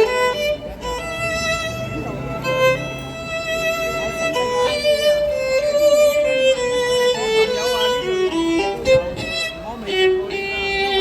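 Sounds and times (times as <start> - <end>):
violin playing slow melody: 0.0 - 11.0.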